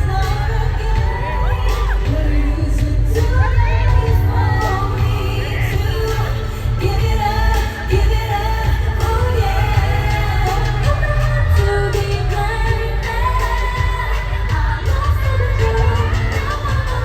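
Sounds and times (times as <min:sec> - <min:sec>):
heavy bass beat: 0:00.0 - 0:17.0
live pop vocals over backing track: 0:00.0 - 0:17.0.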